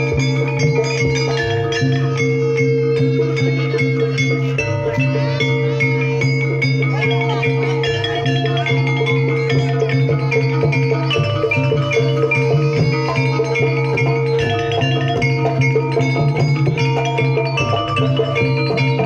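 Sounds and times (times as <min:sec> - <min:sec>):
drums: 0:00.0 - 0:19.0
gongs ringing: 0:00.0 - 0:19.0
metallophones ringing: 0:00.0 - 0:19.0.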